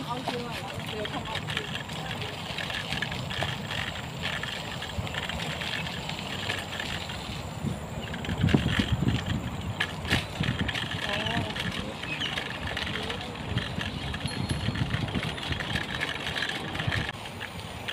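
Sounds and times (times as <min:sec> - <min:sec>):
bicycle tyres on gravel: 0:00.0 - 0:17.9
wind buffeting microphone: 0:00.0 - 0:17.9.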